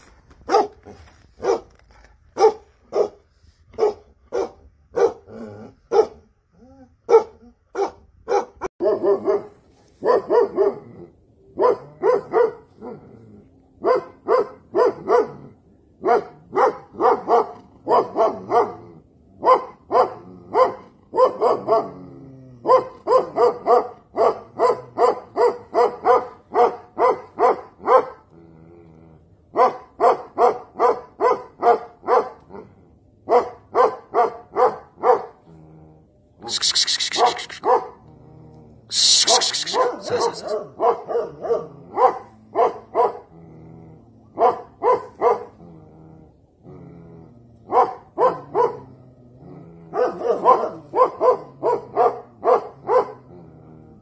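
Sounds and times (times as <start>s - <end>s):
large dog barking: 0.4s - 6.3s, 7.0s - 28.3s, 29.5s - 35.5s, 36.4s - 38.1s, 38.9s - 43.4s, 44.3s - 45.8s, 47.6s - 49.0s, 49.8s - 53.5s.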